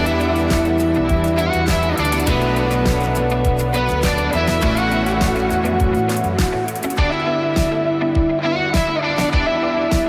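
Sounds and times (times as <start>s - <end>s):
drum beat: 0.0s - 10.0s
guitar-led pop music: 0.0s - 10.0s.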